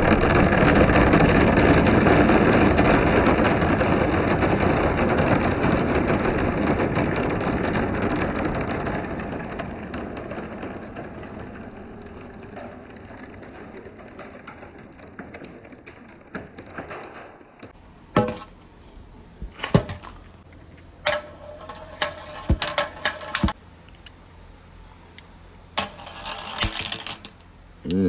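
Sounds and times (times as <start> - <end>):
marbles rattling on a marble run: 0.0 - 17.5, 19.6 - 23.6, 25.8 - 27.5
marbles clacking: 0.0 - 24.2, 25.0 - 27.6.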